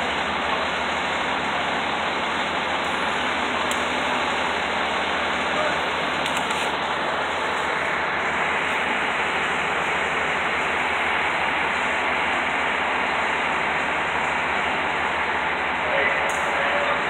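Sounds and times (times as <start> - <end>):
fire engines idling: 0.0 - 17.0.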